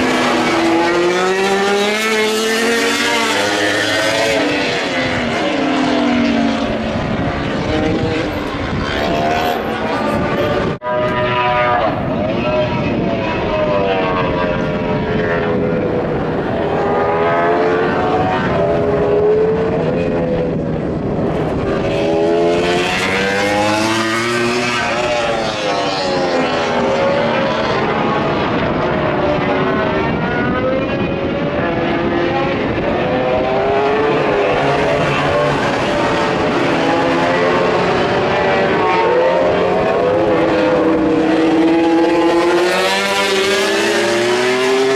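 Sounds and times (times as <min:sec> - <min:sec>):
racing motorcycles revving past: 0:00.0 - 0:44.9.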